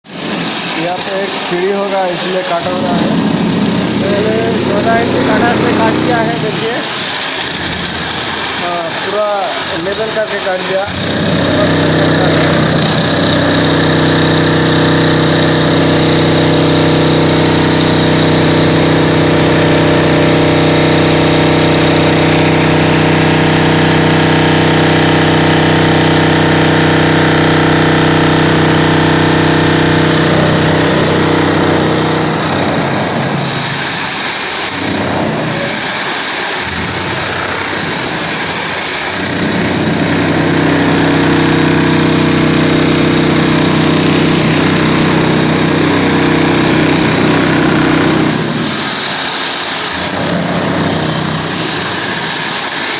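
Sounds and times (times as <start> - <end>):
concrete cutting saw running: 0.0 - 52.9.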